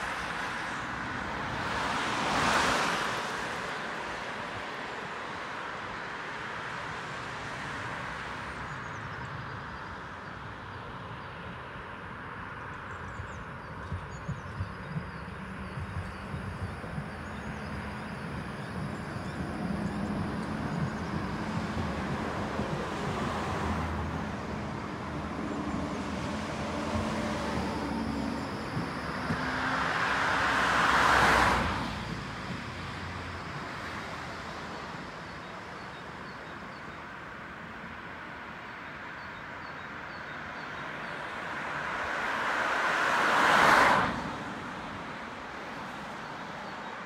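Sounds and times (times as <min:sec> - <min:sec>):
street traffic hum: 0:00.0 - 0:47.0.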